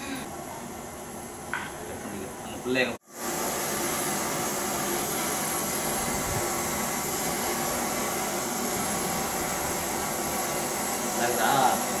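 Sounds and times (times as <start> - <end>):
gas stove burning hiss: 0.0 - 12.0.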